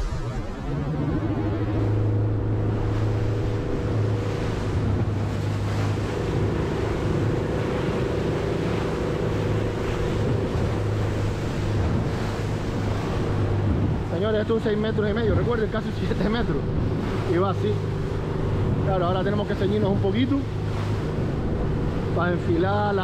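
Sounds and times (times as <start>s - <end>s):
boat engine drone: 0.0s - 23.0s
water rushing along hull: 0.0s - 23.0s
wind buffeting microphone: 0.0s - 23.0s.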